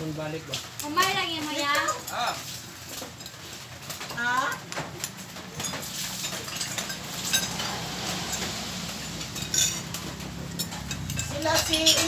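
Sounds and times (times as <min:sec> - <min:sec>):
cutlery clinking on plates: 0:01.7 - 0:12.0.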